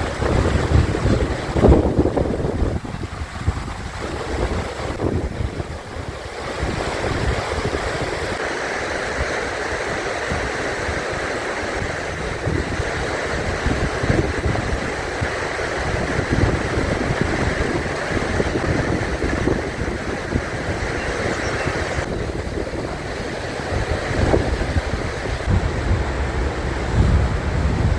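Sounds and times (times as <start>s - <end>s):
river rapids rushing: 0.0s - 27.9s
wind buffeting microphone: 0.0s - 27.9s.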